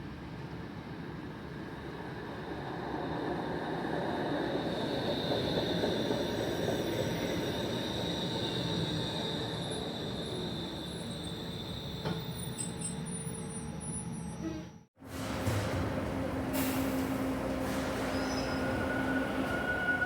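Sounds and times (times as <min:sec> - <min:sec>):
light rail train running: 0:00.0 - 0:20.0.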